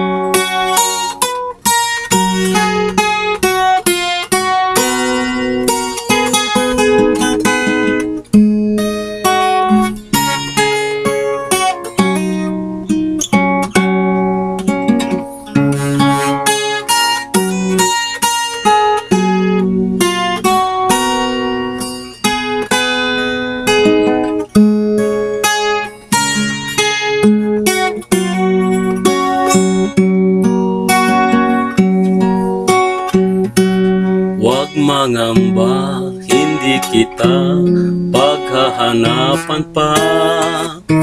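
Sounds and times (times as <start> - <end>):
acoustic guitar playing: 0.0 - 41.0.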